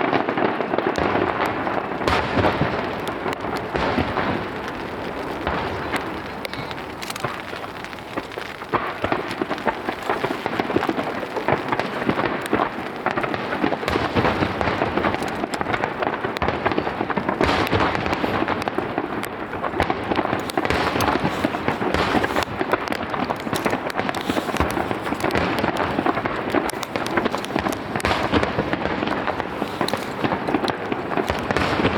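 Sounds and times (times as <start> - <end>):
fireworks booms: 0.0 - 31.9
fireworks crackling and popping: 0.0 - 31.9.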